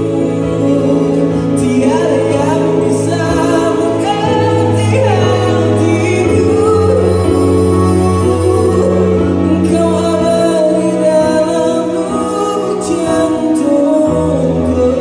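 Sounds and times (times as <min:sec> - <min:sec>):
keyboard sustained chords: 0:00.0 - 0:15.0
man singing into microphone: 0:00.0 - 0:15.0.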